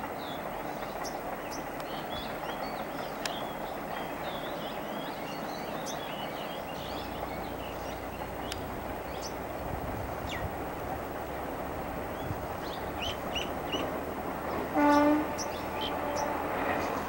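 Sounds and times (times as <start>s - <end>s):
distant train rumble: 0.0s - 17.0s
birds chirping: 0.2s - 17.0s.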